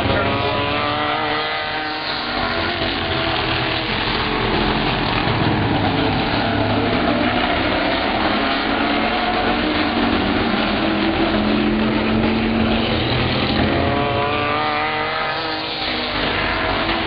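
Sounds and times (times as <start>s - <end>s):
race car engines running: 0.0s - 17.0s.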